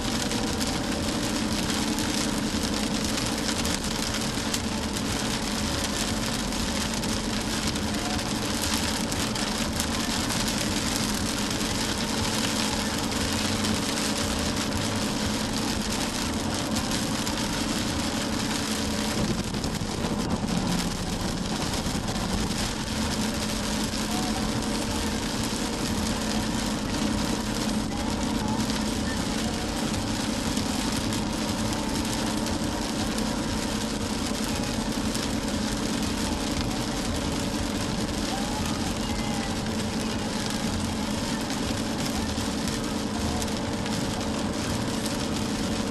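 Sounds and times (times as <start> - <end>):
low engine hum: 0.0 - 45.9
rain on car: 0.0 - 45.9
road noise: 0.0 - 45.9.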